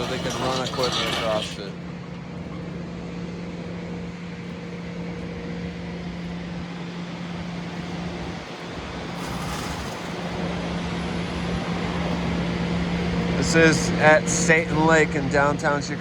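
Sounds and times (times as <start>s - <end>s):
engine drone: 0.0s - 16.0s
passing vehicles rumble: 0.0s - 16.0s.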